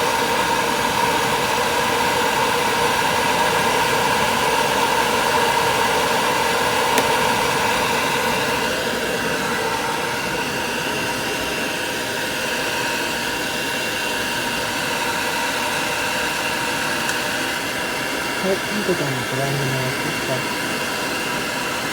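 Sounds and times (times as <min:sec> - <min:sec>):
hair dryer blowing: 0:00.0 - 0:21.9.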